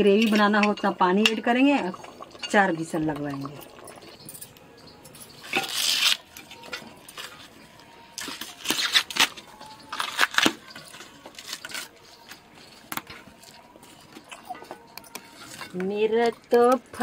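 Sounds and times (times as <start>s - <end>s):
ladle stirring and scraping pot: 0.0s - 17.0s.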